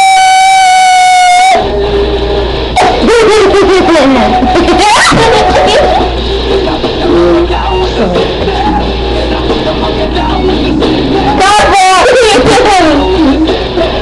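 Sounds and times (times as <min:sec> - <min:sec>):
loud rock music with guitar: 0:00.0 - 0:14.0.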